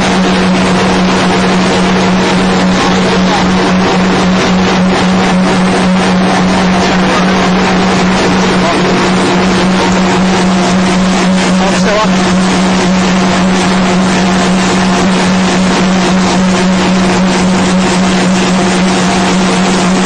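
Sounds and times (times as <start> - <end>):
machine drone: 0.0 - 20.0.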